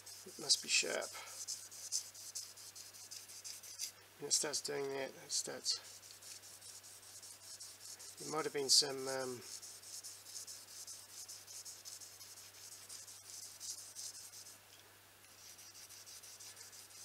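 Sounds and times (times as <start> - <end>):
knife blade rasping on sandpaper: 0.0 - 3.9, 5.4 - 14.6, 15.3 - 17.0.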